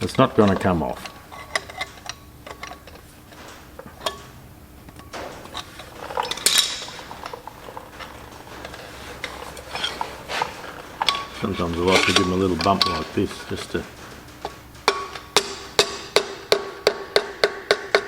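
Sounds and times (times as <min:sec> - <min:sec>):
tools clinking on metal bolts: 0:00.1 - 0:18.0.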